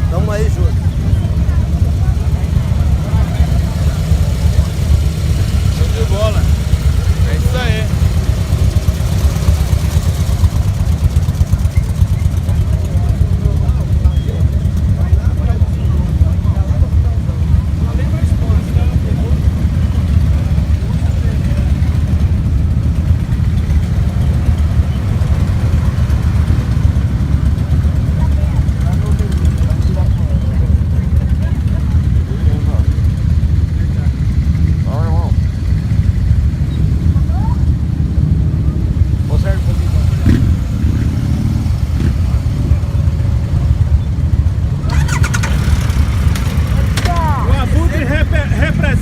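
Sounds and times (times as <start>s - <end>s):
motorcycle engines rumbling: 0.0s - 49.0s.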